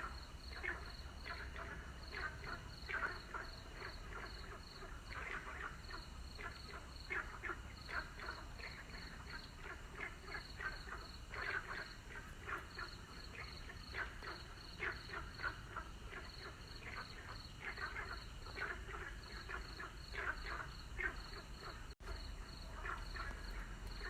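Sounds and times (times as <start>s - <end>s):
frogs croaking: 0.0s - 24.0s
high insect chirp: 0.0s - 24.0s.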